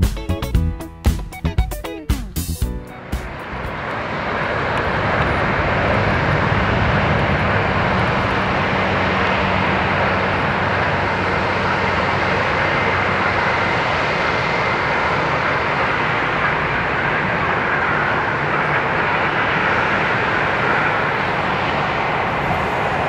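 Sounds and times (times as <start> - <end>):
jet engine rush: 1.3 - 23.0.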